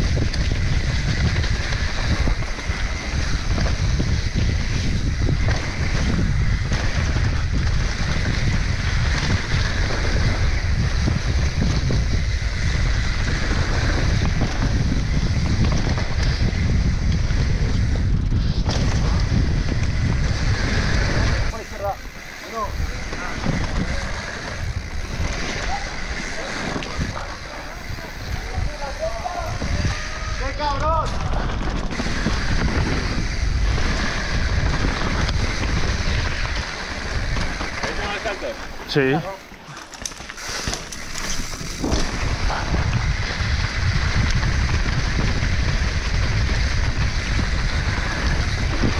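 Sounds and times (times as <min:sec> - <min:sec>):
wind rushing over microphone: 0:00.0 - 0:39.6, 0:40.4 - 0:48.9
mountain bike rumbling and rattling: 0:00.0 - 0:48.9.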